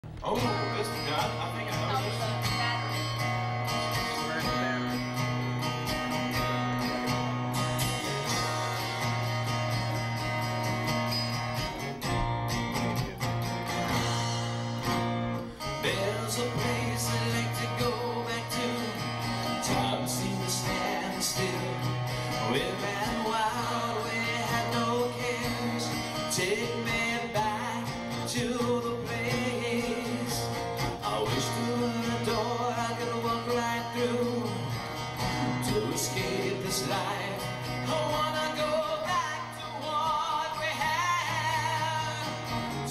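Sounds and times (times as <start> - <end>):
acoustic guitar playing: 0.0 - 42.9
man singing: 0.1 - 3.0, 3.7 - 9.0, 15.5 - 42.9.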